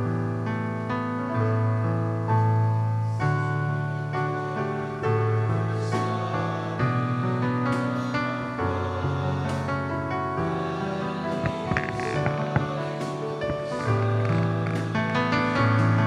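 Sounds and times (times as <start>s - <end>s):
slow keyboard chords: 0.0s - 16.0s.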